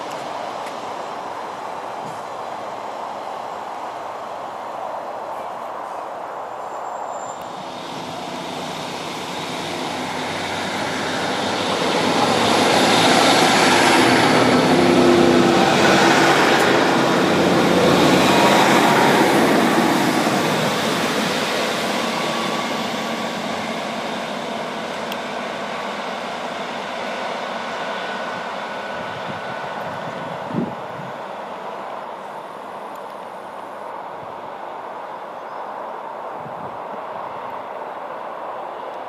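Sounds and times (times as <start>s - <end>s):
diesel engines droning: 0.0s - 39.0s
train wheels on rails: 0.0s - 39.0s.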